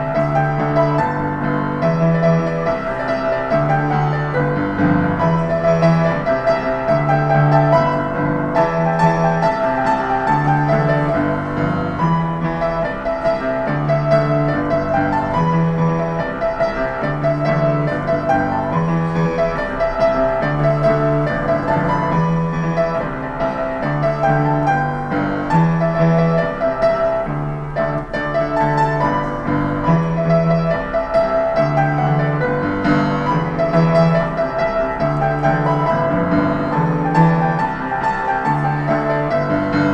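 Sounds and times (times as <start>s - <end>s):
piano playing: 0.0s - 39.9s.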